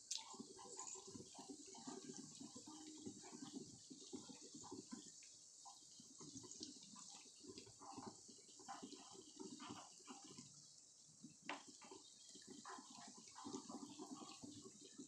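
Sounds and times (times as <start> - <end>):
donuts sizzling in oil: 0.0 - 15.0.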